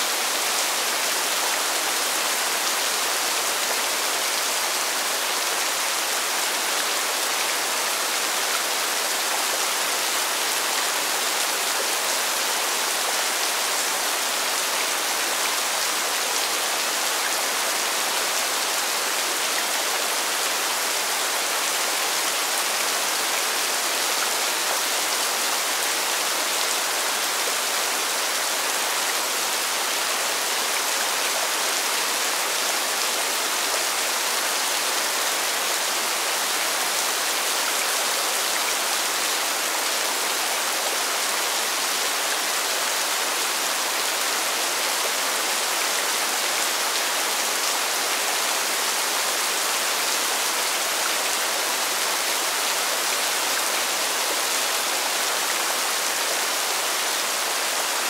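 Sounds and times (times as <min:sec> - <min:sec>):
rain falling on pavement: 0:00.0 - 0:58.0.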